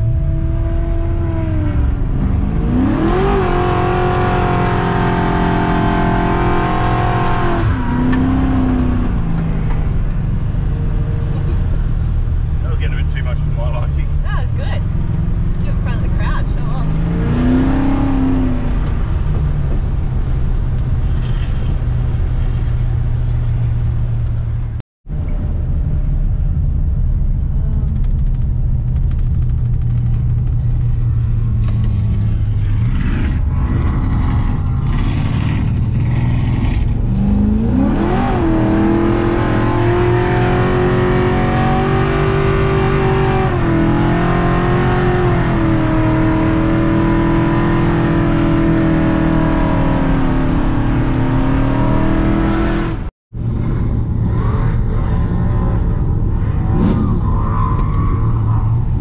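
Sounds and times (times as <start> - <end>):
truck engine running and revving: 0.0 - 59.0.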